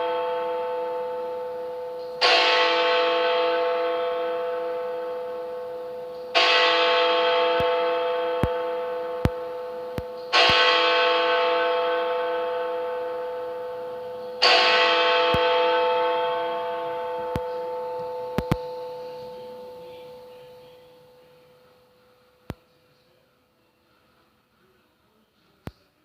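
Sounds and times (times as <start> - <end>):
large bell striking: 0.0 - 21.2.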